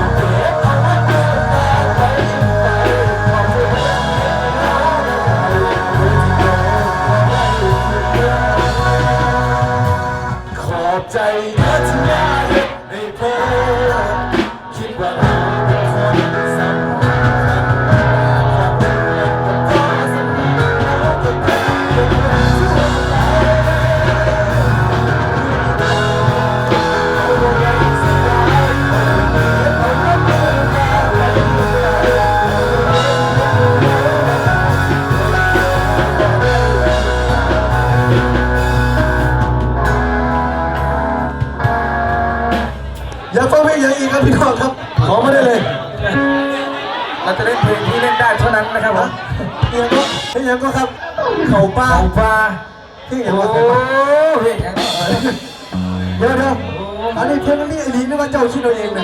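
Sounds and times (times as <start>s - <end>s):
live rock band music: 0.0s - 53.1s, 53.9s - 59.0s.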